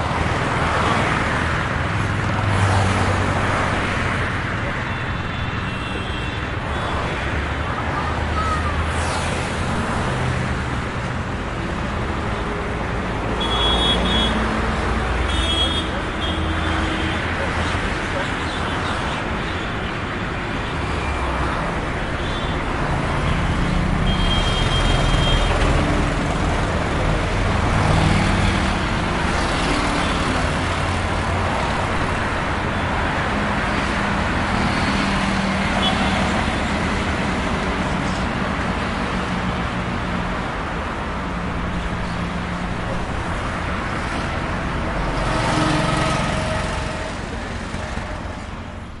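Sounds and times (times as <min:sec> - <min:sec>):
passing vehicle engines: 0:00.0 - 0:05.8, 0:06.4 - 0:49.0.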